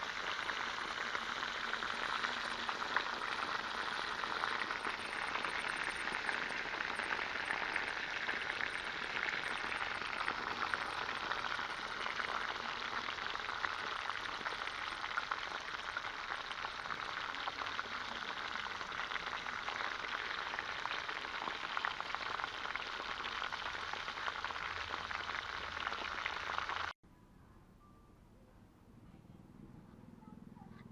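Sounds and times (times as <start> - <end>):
pork sizzling in hot oil: 0.0 - 27.0.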